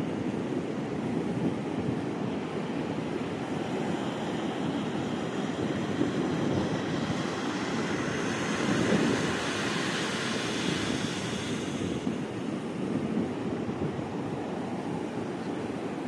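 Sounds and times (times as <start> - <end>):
surf breaking on beach: 1.0 - 16.0.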